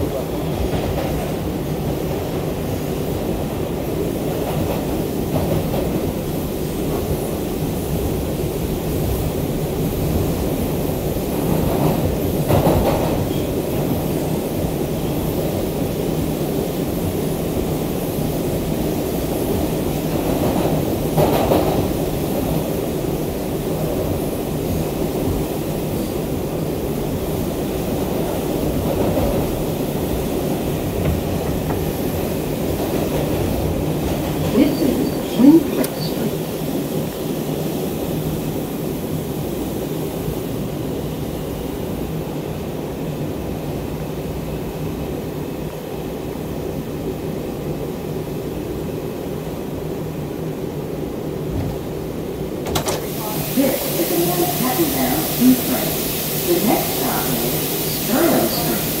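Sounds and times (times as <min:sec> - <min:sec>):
subway train wheels rumbling: 0:00.0 - 0:59.0
train rattle: 0:00.0 - 0:59.0.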